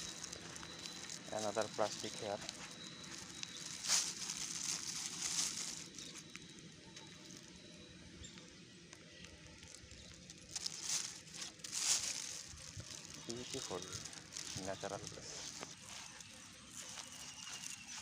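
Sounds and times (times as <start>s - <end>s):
plastic litter crinkling: 0.0s - 7.6s, 9.2s - 18.0s.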